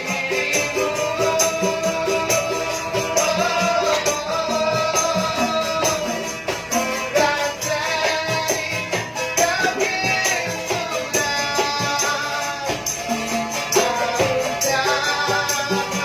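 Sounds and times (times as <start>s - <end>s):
person singing: 0.0s - 16.0s
shaken percussion beat: 0.0s - 16.0s.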